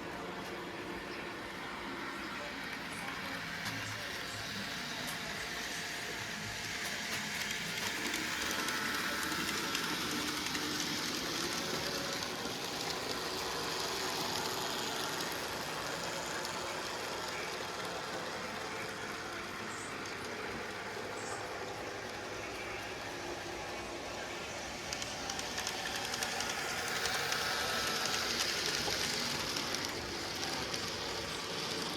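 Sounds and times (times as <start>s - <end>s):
model train rolling on track: 0.0s - 31.9s.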